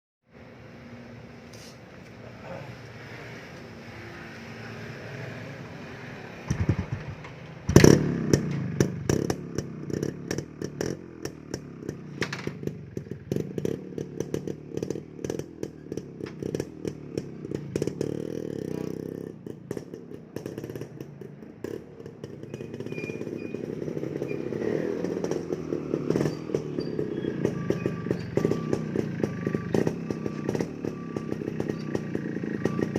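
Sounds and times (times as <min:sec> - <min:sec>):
motorcycle engine revving: 0:02.5 - 0:32.9
motorcycle engine cranking: 0:06.4 - 0:32.9.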